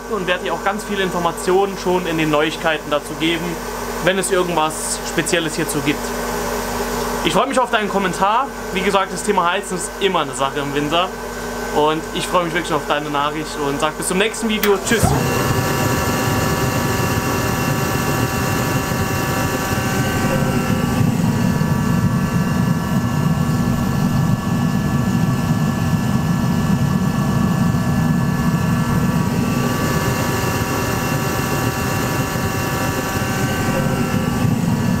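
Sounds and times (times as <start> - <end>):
forced-air heater droning: 0.0 - 35.0.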